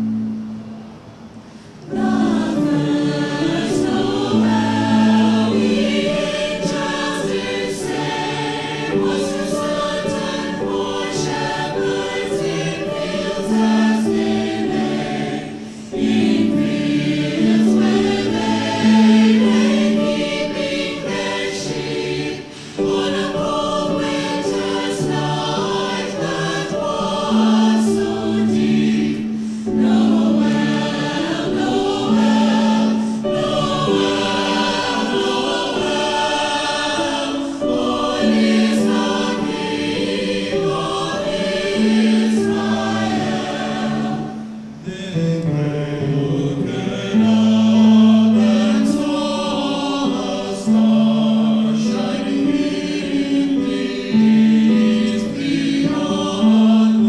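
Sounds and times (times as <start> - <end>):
mixed choir singing: 1.4 - 57.0.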